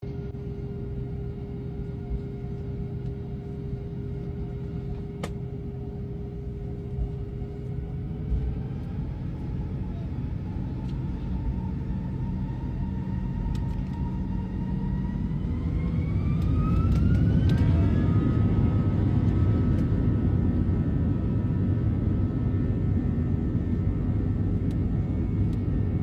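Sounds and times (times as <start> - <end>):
jet engines rumbling from cabin: 0.0 - 26.0.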